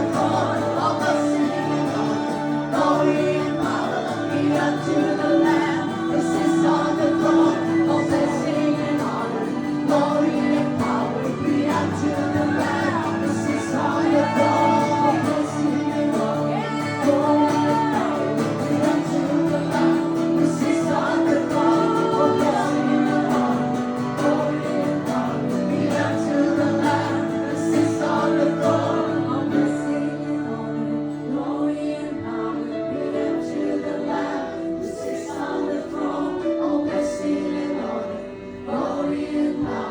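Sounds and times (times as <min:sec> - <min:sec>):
acoustic worship music with singing: 0:00.0 - 0:39.9.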